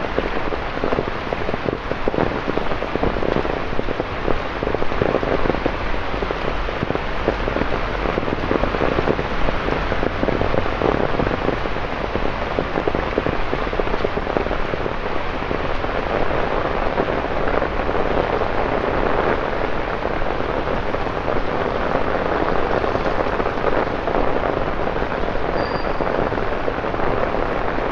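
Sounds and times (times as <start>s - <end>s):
rain on wet paving: 0.0s - 27.9s.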